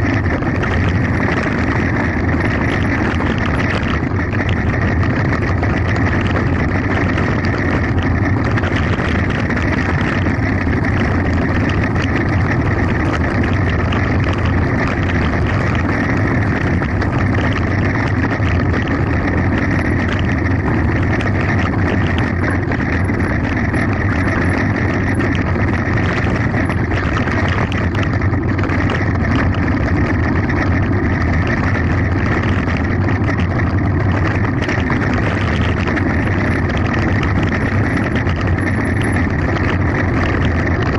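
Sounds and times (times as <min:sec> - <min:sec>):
bike tyres rattling over gravel: 0:00.0 - 0:40.9
wind on microphone: 0:00.0 - 0:40.9.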